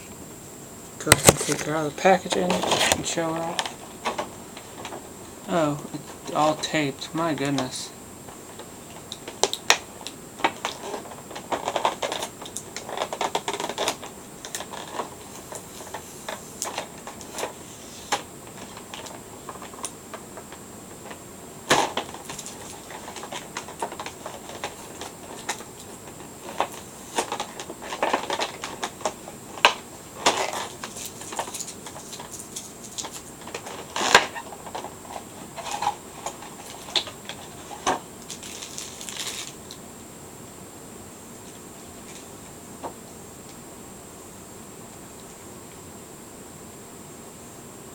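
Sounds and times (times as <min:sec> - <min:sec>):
plastic packaging crinkling: 0:01.0 - 0:39.8.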